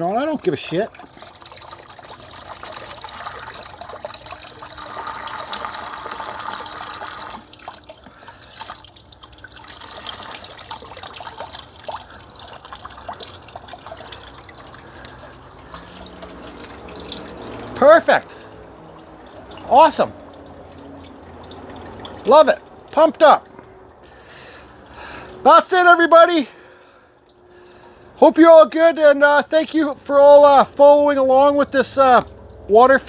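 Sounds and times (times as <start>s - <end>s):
water trickling into basin: 0.0s - 33.0s.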